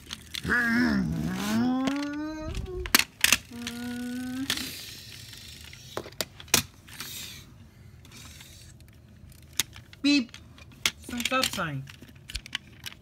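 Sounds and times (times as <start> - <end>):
plastic toys clicking and clacking: 0.0 - 7.4, 8.0 - 13.0.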